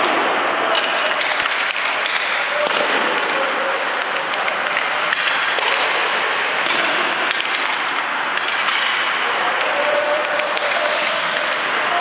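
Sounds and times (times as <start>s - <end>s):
sticks and puck tapping on ice: 0.0s - 6.0s, 6.6s - 12.0s
steady rink hiss: 0.3s - 12.0s.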